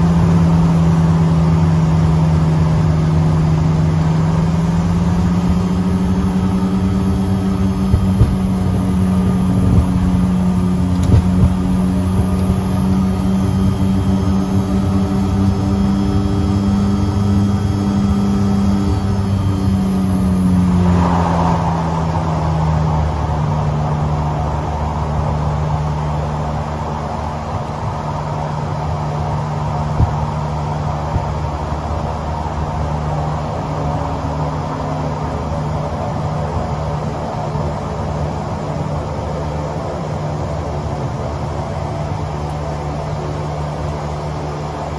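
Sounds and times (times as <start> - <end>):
turboprop engines droning and whining: 0.0 - 44.9.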